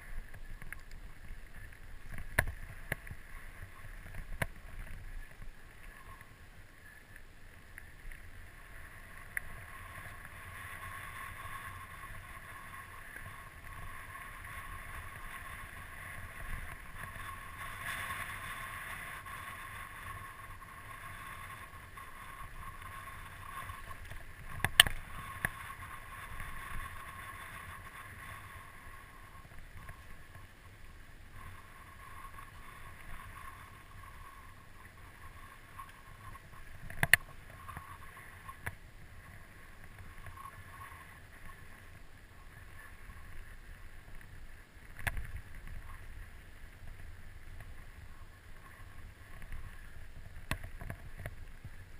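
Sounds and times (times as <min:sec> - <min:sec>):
bike tyre noise on dirt: 0:00.0 - 0:51.9.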